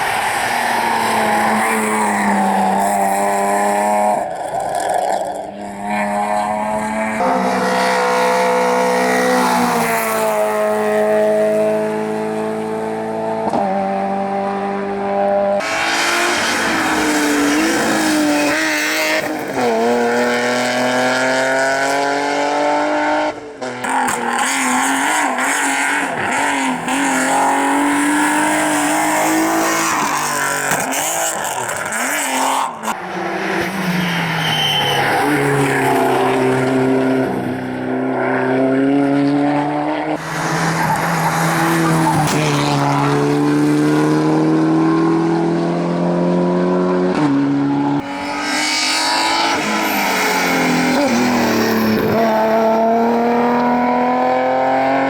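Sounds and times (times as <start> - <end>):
rally car engines revving hard: 0.0 - 55.0.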